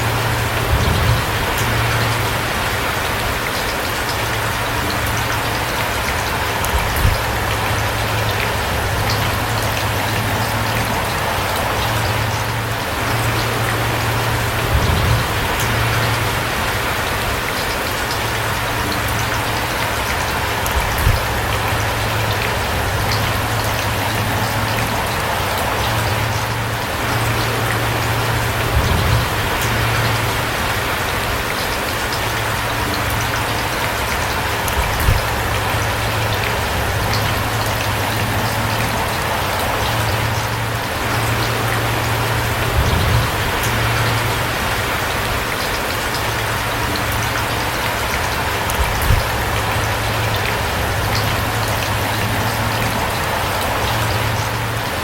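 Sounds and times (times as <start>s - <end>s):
raindrops ticking: 0.0s - 55.0s
steady rain falling: 0.0s - 55.0s.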